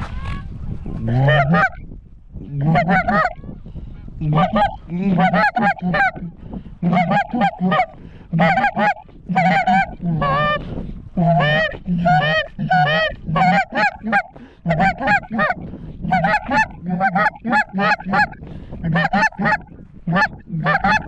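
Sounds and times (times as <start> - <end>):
goose honking and clucking: 0.0 - 1.8, 2.5 - 3.5, 4.2 - 10.6, 11.2 - 21.0.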